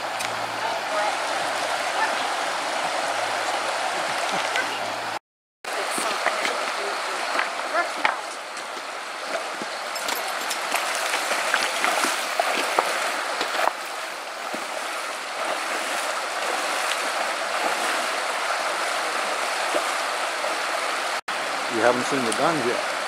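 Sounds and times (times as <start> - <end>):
splashes of wading: 0.0 - 23.0
water rushing over stones: 0.0 - 23.0.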